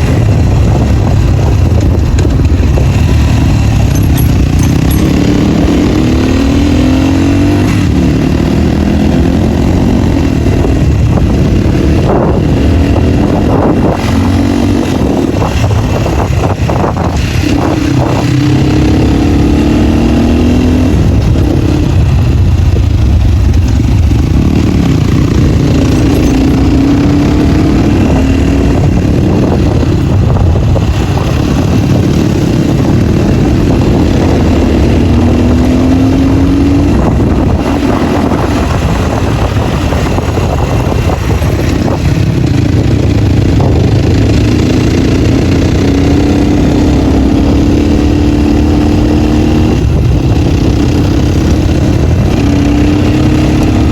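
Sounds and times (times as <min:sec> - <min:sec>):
off-road motorcycle engine revving: 0:00.0 - 0:53.9.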